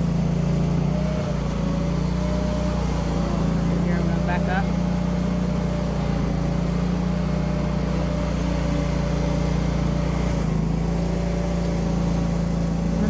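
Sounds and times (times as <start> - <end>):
feed mixer engine humming: 0.0 - 13.0.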